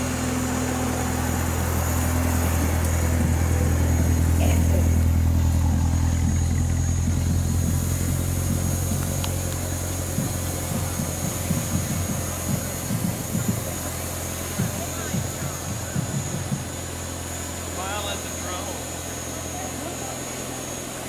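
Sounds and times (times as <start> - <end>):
car engine passing by: 0.0 - 21.0.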